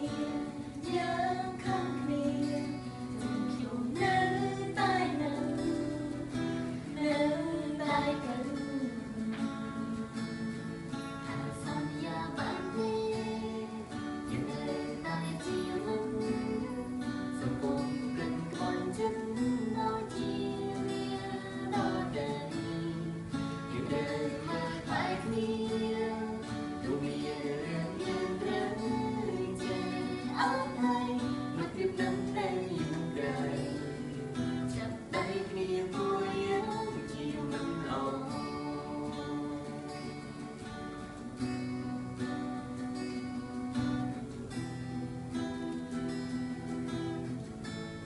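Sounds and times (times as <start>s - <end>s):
person singing wordless melody: 0.0s - 40.8s
acoustic guitar: 0.0s - 48.0s.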